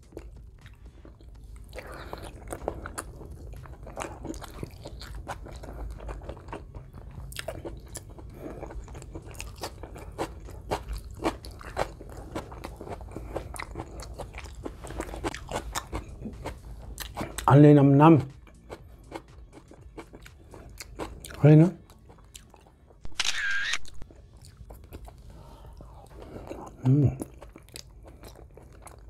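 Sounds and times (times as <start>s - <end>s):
close-up chewing: 0.0s - 17.5s, 18.2s - 23.3s, 24.0s - 29.0s.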